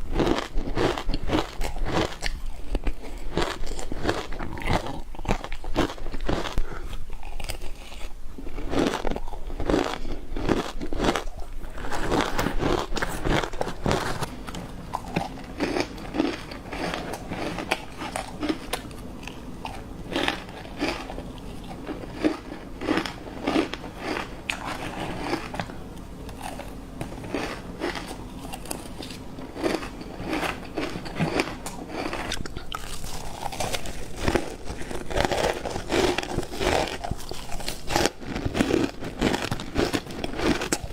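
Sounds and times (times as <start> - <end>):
ice crunching between teeth: 0.0 - 25.7, 26.3 - 40.9.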